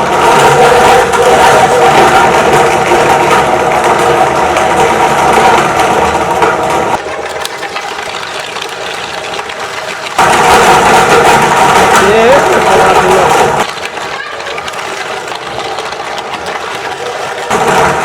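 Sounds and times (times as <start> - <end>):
grinder crackling: 0.0 - 18.0
meat grinder motor whining: 0.0 - 18.0.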